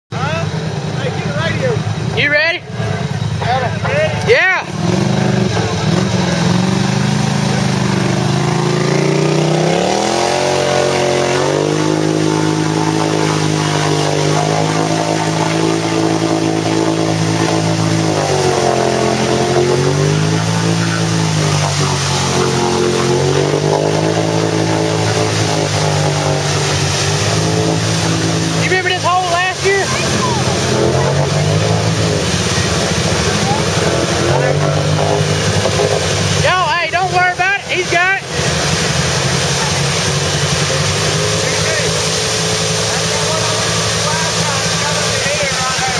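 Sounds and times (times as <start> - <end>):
atv engine revving: 0.0 - 45.9
wheels throwing mud: 4.7 - 45.9.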